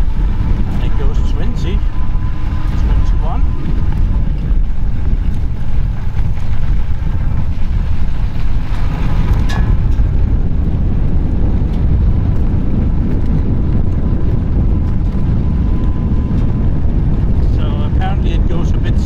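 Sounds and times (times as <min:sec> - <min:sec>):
faint steady whine: 0:00.0 - 0:19.0
fat tyres rolling over grass: 0:00.0 - 0:19.0
wind on microphone: 0:00.0 - 0:19.0.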